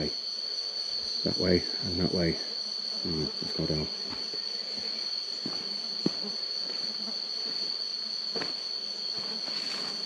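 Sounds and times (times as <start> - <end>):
insect chorus drone: 0.0 - 10.0.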